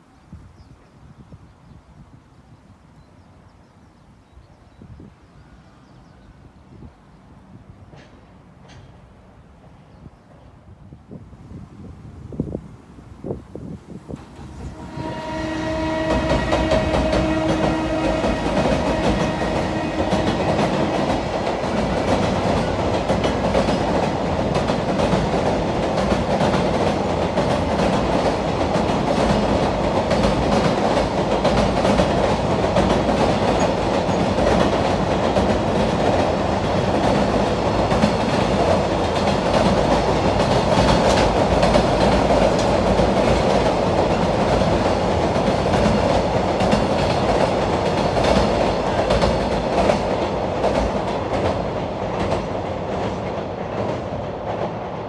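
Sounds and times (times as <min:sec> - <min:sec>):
train rumbling past: 0:06.0 - 0:10.5, 0:11.2 - 0:55.0.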